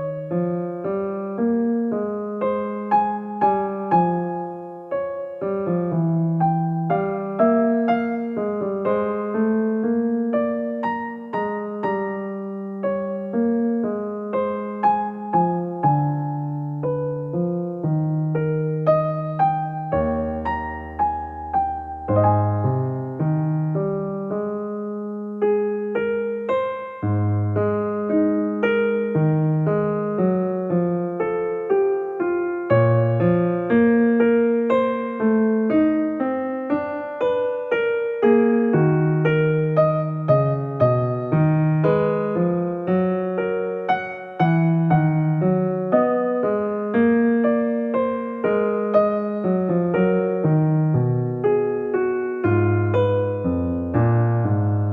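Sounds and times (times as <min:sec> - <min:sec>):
gentle electric piano melody: 0:00.0 - 0:54.9.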